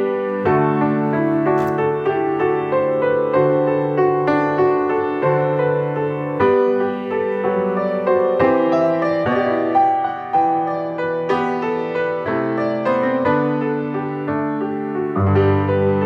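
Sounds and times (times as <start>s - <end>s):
slow gentle piano piece: 0.0s - 16.0s.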